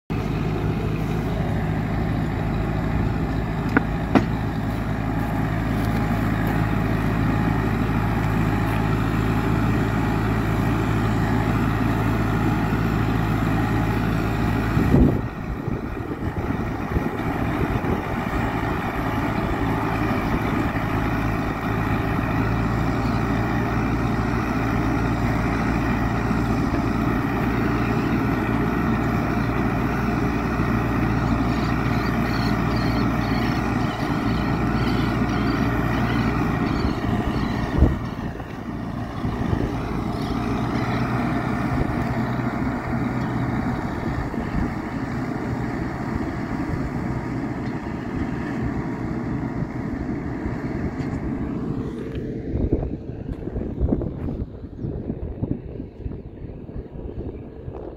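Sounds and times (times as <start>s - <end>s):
tractor engine running: 0.1s - 57.9s.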